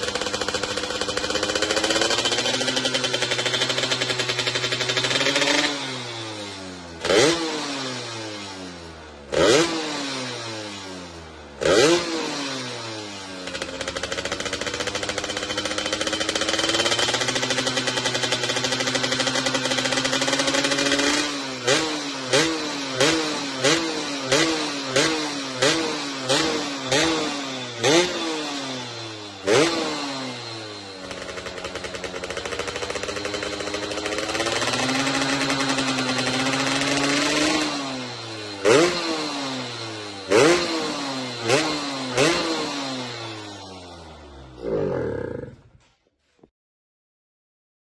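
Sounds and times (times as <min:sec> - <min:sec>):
motorcycle engine revving: 0:00.0 - 0:46.3.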